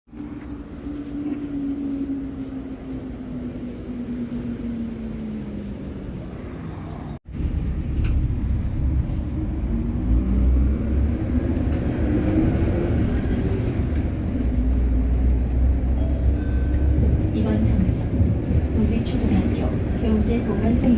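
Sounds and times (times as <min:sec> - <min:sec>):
bus engine: 0:00.1 - 0:20.9.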